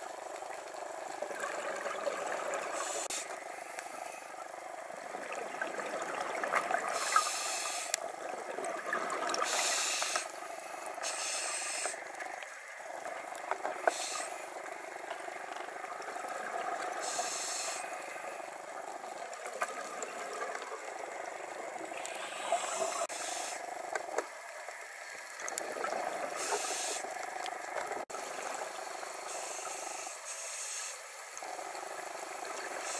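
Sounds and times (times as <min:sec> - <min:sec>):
regulator air hiss underwater: 0:00.0 - 0:32.9
steady crackle with clicks: 0:00.0 - 0:32.9.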